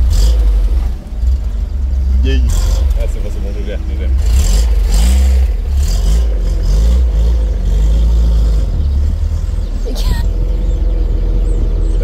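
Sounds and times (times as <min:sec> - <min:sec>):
car engine at low revs: 0:00.0 - 0:12.0.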